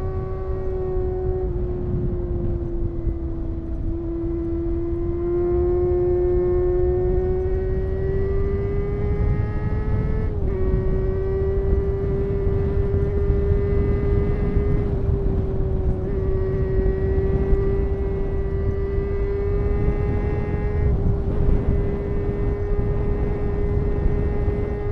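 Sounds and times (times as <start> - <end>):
motorcycle engine at high revs: 0.0 - 24.9
wind rush: 0.0 - 24.9.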